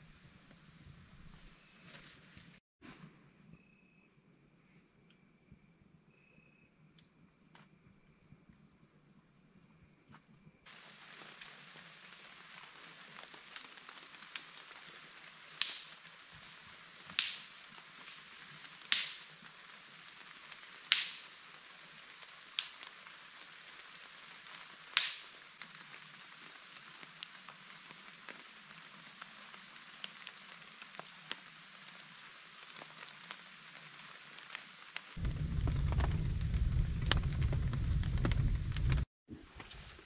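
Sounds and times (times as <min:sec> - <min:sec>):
light rain on forest leaves: 0:00.0 - 0:02.6, 0:04.0 - 0:40.0.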